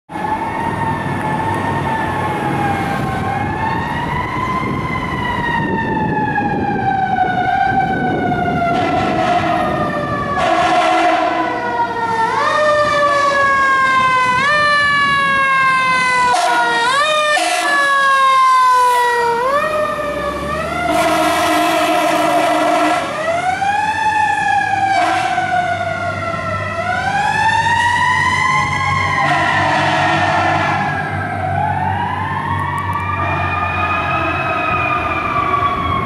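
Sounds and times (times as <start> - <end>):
fire engine siren wailing: 0.1 - 36.0.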